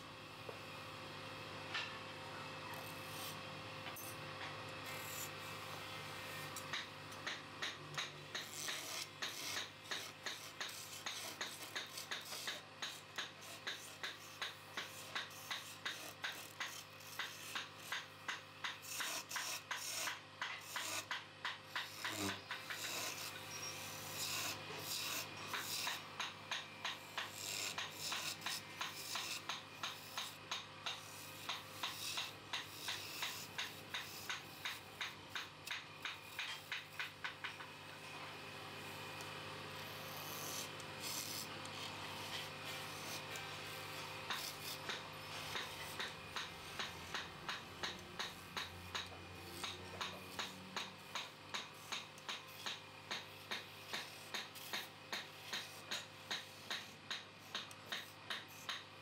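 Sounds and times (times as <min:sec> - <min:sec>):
lathe motor humming: 0:04.4 - 0:58.0
lathe tool scraping wood: 0:04.8 - 0:37.5, 0:39.7 - 0:58.8.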